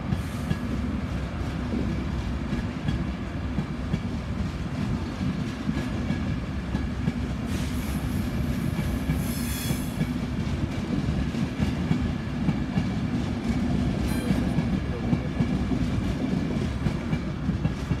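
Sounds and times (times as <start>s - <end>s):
train wheels rumbling and clicking: 0.0s - 18.0s.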